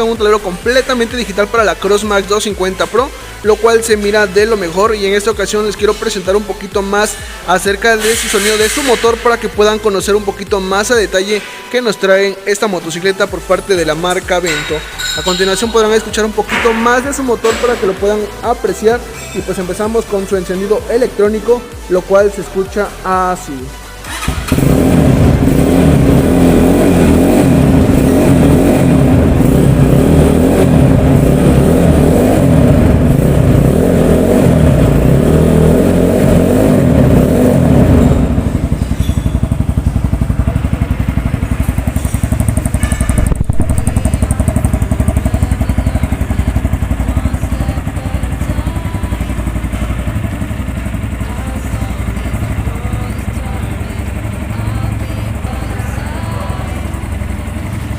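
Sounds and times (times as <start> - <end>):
motorcycle engine idling: 0.0 - 11.4, 12.5 - 57.9.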